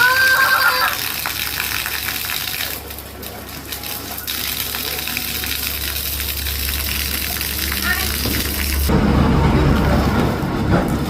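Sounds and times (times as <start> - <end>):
water pouring and splattering: 0.0 - 8.9.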